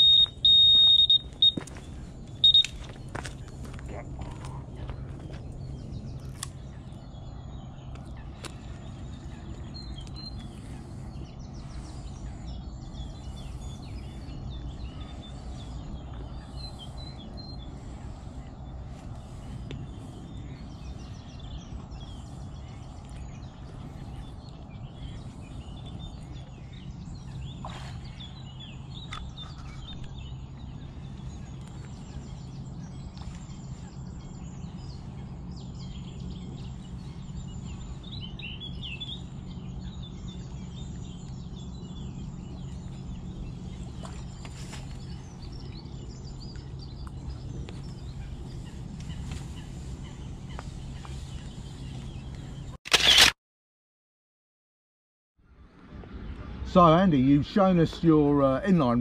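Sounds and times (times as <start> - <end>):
low outdoor rumble: 0.0 - 52.8, 55.4 - 59.0
birds singing and chirping: 0.0 - 53.3, 55.6 - 59.0.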